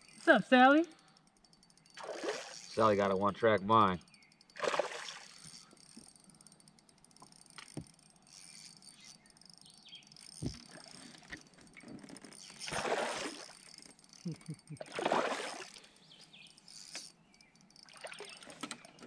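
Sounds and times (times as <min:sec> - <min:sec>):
fish thrashing and splashing: 0:01.8 - 0:02.8, 0:04.3 - 0:19.0.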